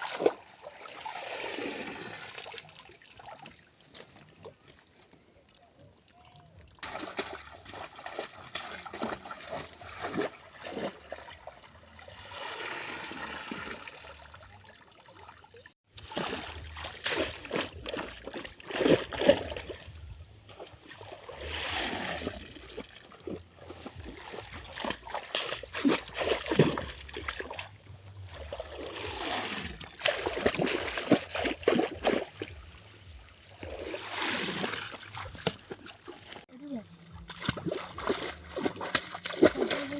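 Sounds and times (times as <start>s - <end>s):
river water splashing and trickling: 0.0s - 39.9s.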